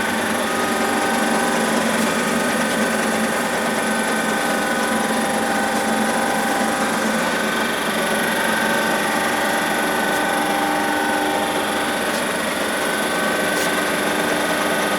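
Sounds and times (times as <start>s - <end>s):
grinder machine running: 0.0s - 14.9s.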